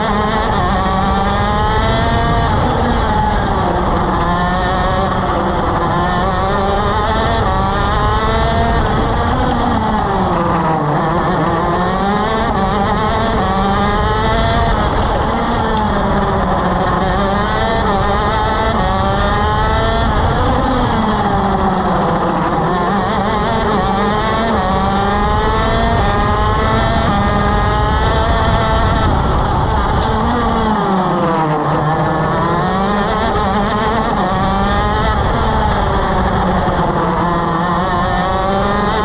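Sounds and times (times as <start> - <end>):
kart engine revving through gears: 0.0 - 39.0.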